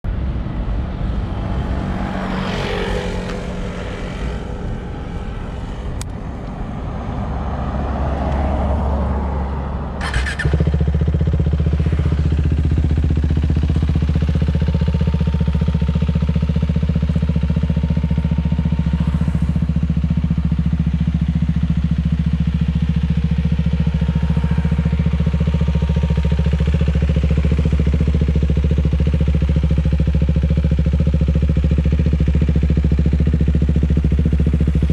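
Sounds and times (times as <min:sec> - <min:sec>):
motorcycle engine: 0:00.0 - 0:34.9.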